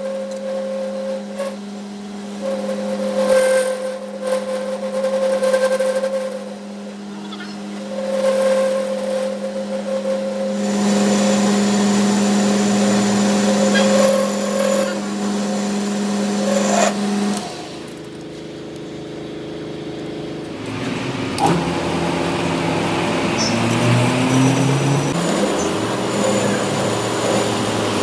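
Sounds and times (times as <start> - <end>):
second machine humming: 0.0 - 28.0
shop machine humming: 0.0 - 28.0.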